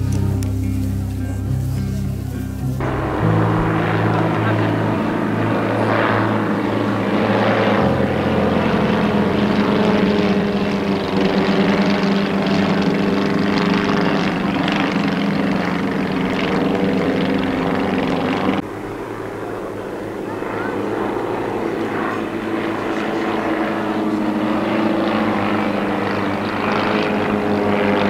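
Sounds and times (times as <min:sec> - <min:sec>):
propeller aircraft engines droning: 0:00.0 - 0:28.0.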